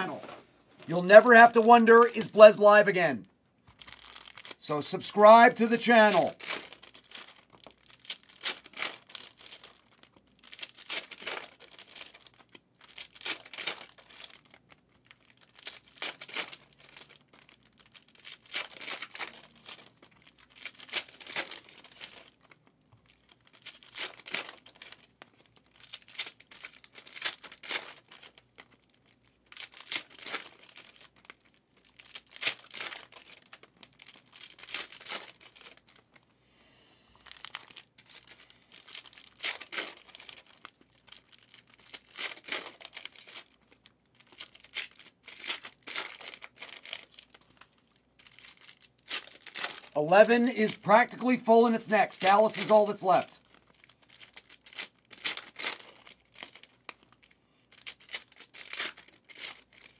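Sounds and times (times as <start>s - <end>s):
wrappers tearing and crinkling: 3.7s - 36.2s, 37.2s - 59.9s.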